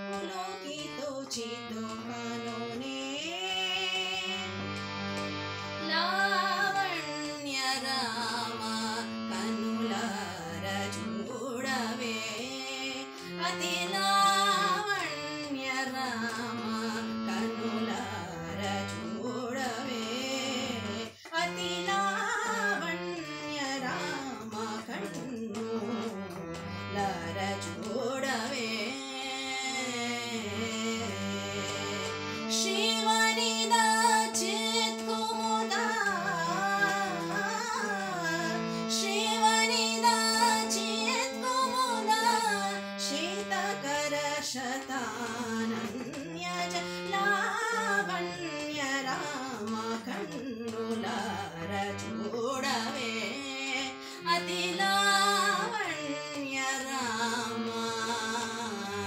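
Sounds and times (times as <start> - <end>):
woman singing: 0.0 - 4.9, 5.8 - 59.0
instrumental accompaniment: 0.0 - 59.0.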